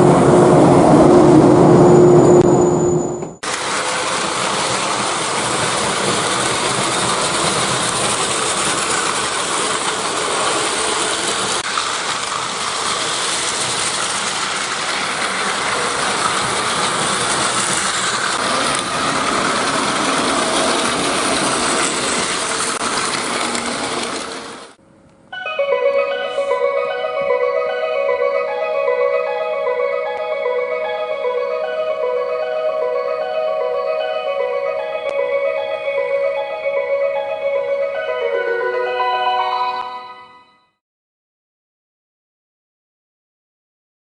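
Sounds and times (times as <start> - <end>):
train rattling on track: 0.0 - 24.8, 26.1 - 39.8.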